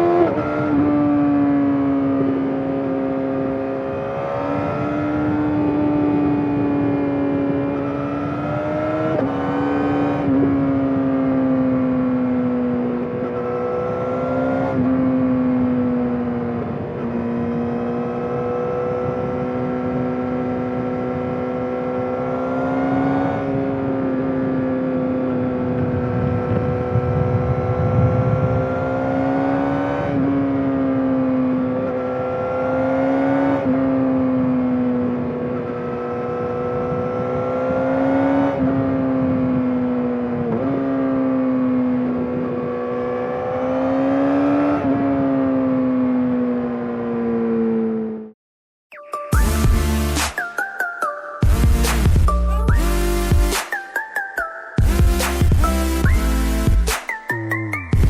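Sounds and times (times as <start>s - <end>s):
motorcycle engine revving: 0.0s - 48.4s, 54.8s - 58.0s.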